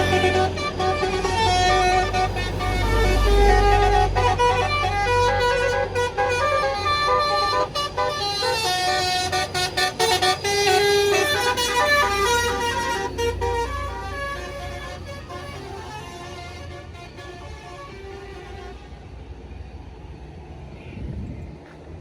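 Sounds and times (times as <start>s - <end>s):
musical bus horn tune: 0.0s - 19.3s
diesel engine rumble: 0.0s - 22.0s.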